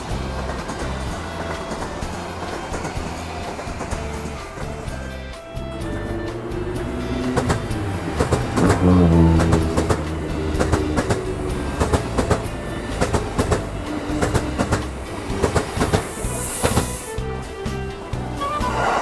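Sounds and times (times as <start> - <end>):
train wheels clattering over rail joints: 0.0 - 18.3
train rumble: 0.0 - 19.0.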